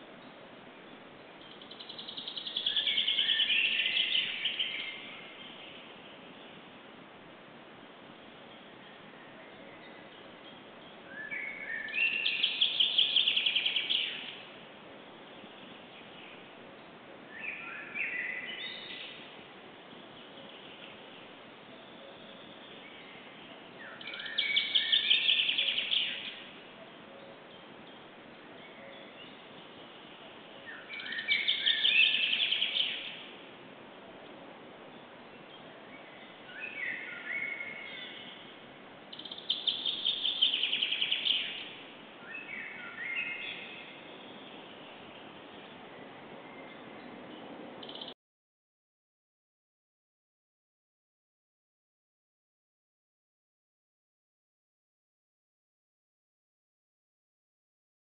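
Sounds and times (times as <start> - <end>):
songbirds singing: 0.0 - 48.2.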